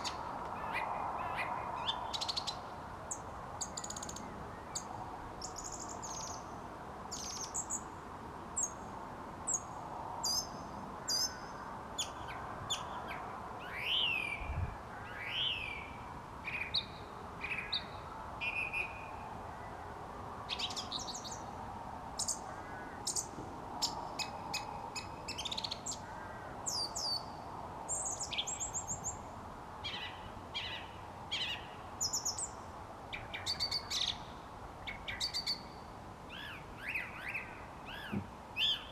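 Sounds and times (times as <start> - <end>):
song thrush singing: 0.0 - 6.5, 7.1 - 8.0, 9.5 - 19.8, 20.5 - 21.6, 22.2 - 38.9.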